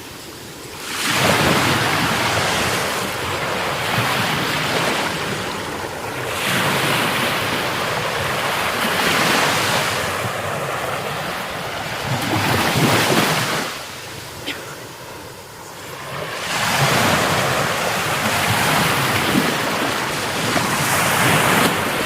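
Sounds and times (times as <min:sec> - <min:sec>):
sea surf breaking on beach: 0:00.0 - 0:22.0.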